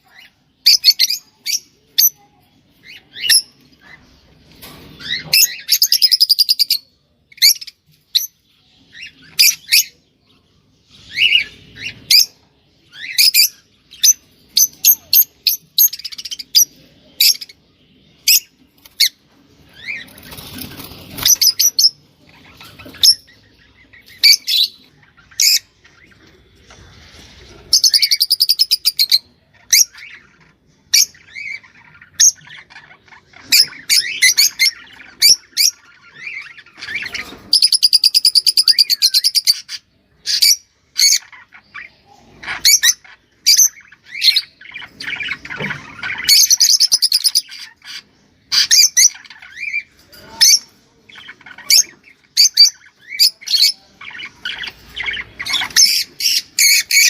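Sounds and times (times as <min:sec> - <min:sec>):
songbird chirping and whistling: 0:05.0 - 0:57.0.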